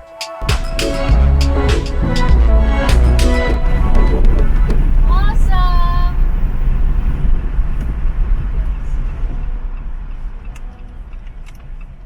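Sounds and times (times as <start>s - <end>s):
car driving rumble: 1.1s - 12.0s.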